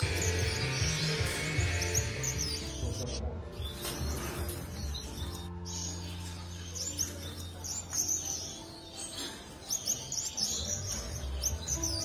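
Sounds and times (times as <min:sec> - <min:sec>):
birds chirping: 0:00.0 - 0:12.0
soft background music: 0:00.0 - 0:12.0.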